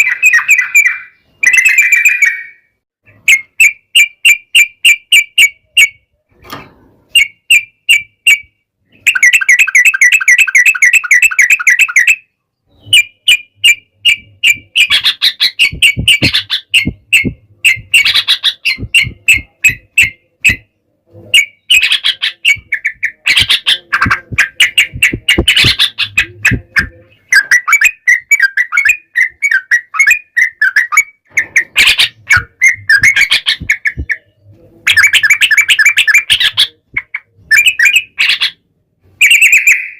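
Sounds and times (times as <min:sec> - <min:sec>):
bulbuls singing and chattering: 0:00.0 - 0:06.0, 0:07.2 - 0:38.6, 0:39.2 - 0:39.9.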